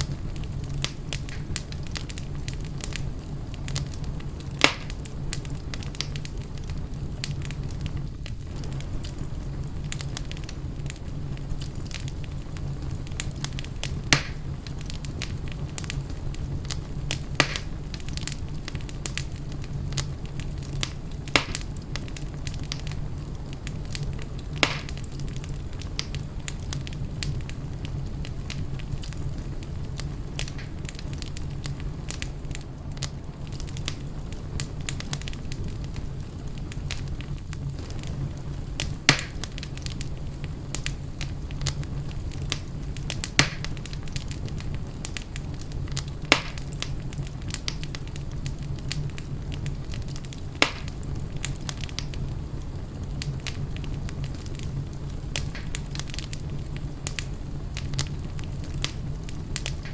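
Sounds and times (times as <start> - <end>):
fire crackling in fireplace: 0.0 - 59.9
fire popping: 0.0 - 59.9.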